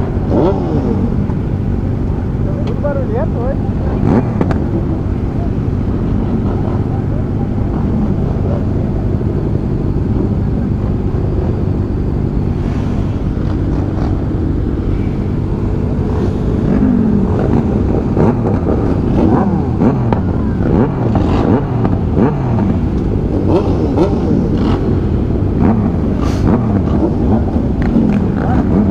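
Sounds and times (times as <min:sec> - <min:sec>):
motorcycle engines revving: 0:00.0 - 0:28.9.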